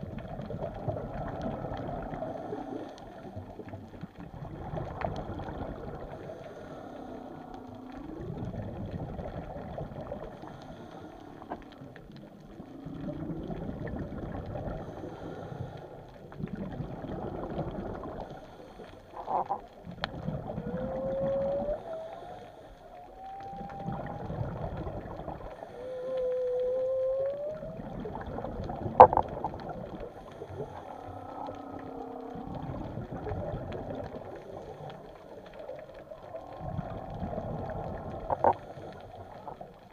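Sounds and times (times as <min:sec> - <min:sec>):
rushing water noise: 0:00.0 - 0:39.9
whales moaning underwater: 0:00.2 - 0:39.9.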